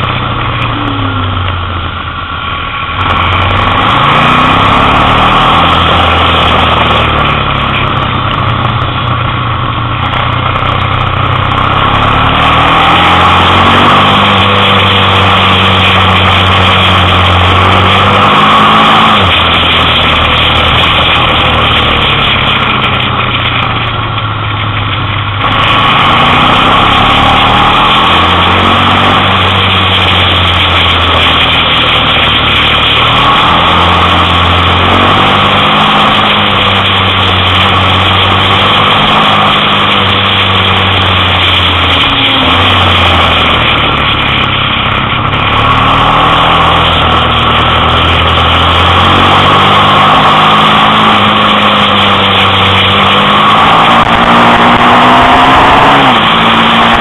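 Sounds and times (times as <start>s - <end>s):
motorcycle engine shifting gears: 0.0s - 57.0s.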